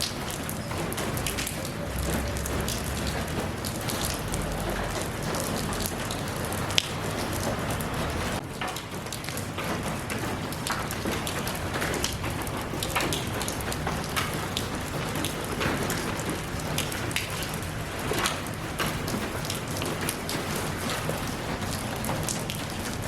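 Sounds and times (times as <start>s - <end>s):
raindrops tapping nearby: 0.0s - 23.0s
steady rain hiss: 0.0s - 23.0s.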